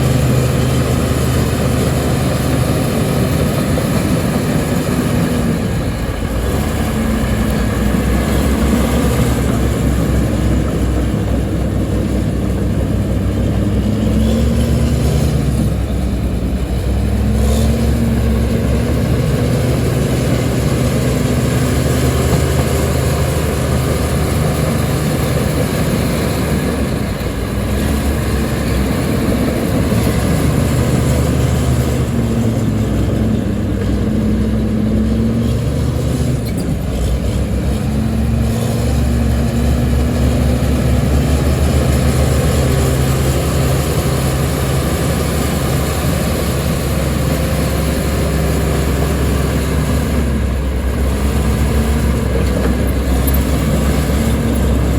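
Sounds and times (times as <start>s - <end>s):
heavy machine diesel engine running: 0.0s - 54.9s.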